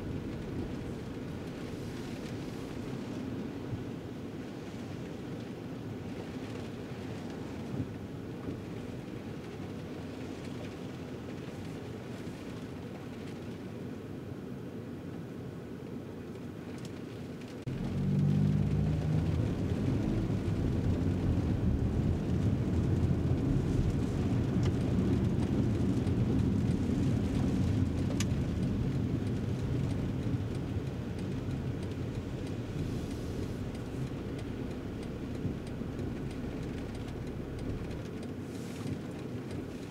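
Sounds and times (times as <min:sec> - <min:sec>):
tyre noise on wet road: 0:00.0 - 0:14.0, 0:16.3 - 0:39.9
car engine low rumble: 0:00.0 - 0:39.9.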